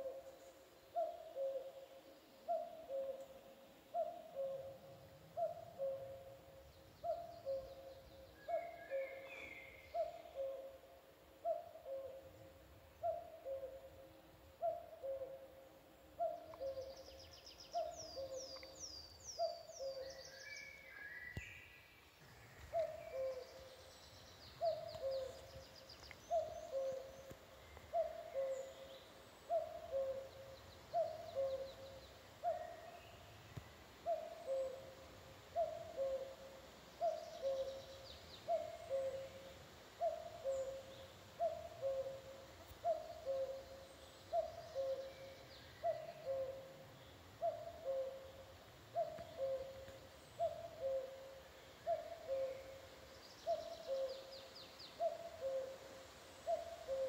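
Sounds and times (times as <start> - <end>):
songbirds trilling and chirping: 0.0 - 57.0
cuckoo calling: 1.0 - 1.9, 2.5 - 14.0, 14.6 - 15.6, 16.2 - 21.6, 22.6 - 23.8, 24.5 - 33.2, 34.0 - 46.8, 47.4 - 57.0.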